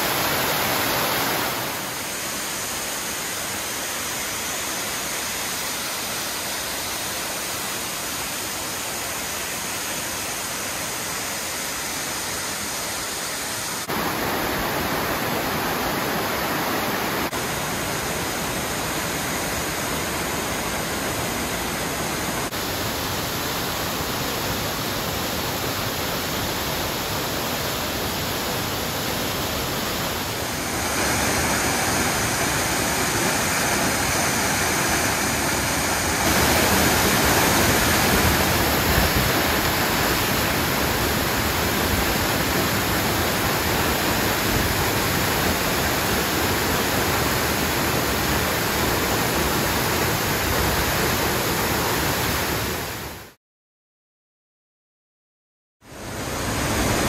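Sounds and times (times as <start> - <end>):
waterfall rushing: 0.0 - 53.3, 55.9 - 57.0.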